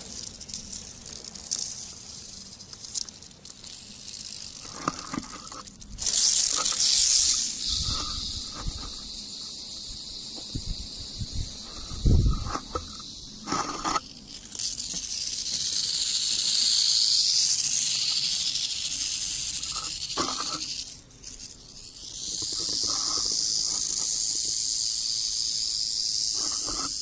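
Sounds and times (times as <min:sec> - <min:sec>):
rattlesnake rattling: 0:00.0 - 0:27.0.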